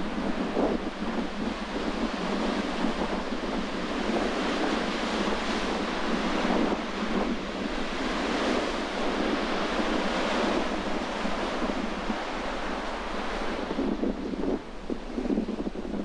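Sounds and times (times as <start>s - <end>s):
sea waves washing against shore: 0.0s - 16.0s
wind buffeting microphone: 0.0s - 16.0s.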